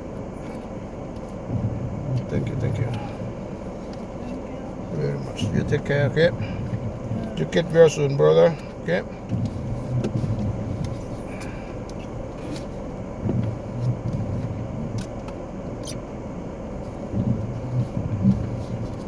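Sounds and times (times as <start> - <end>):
car engine rumble inside cabin: 0.0 - 19.0.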